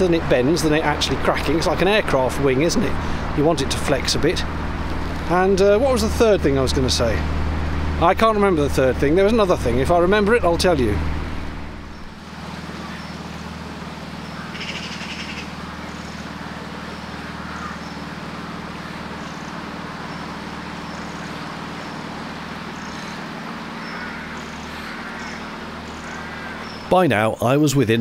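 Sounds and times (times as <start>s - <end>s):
birds calling: 0.0s - 27.6s
outboard motor running: 0.0s - 28.0s.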